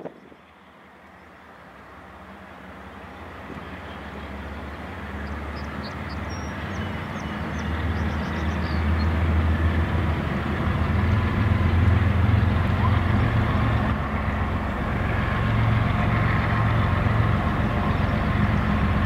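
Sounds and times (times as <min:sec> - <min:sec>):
diesel locomotive engines rumbling: 0:00.0 - 0:19.0.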